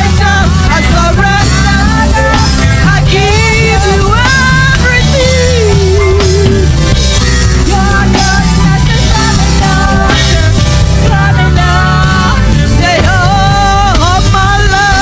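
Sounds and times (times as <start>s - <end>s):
gospel band with drums and bass: 0.0s - 15.0s
person singing: 0.0s - 15.0s.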